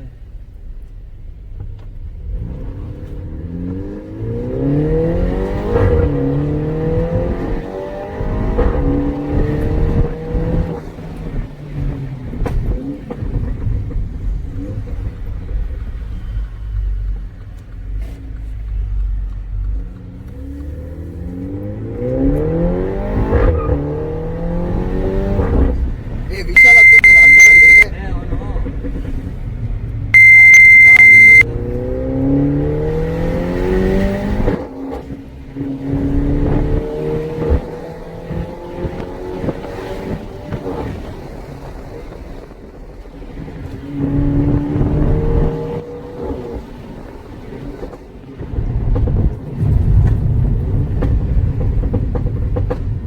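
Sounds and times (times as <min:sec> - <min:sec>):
car engine accelerating through gears: 0:00.0 - 0:27.8, 0:28.6 - 0:41.3, 0:43.6 - 0:53.0.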